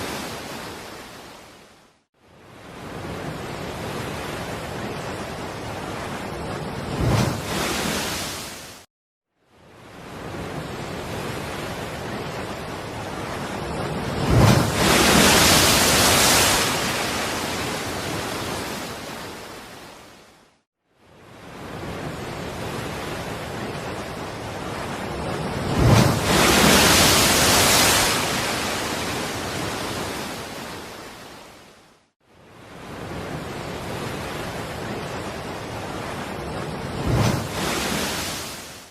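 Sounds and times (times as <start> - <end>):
sea waves breaking on shore: 0.0 - 1.7, 2.4 - 8.9, 9.7 - 20.3, 21.1 - 31.8, 32.4 - 38.9.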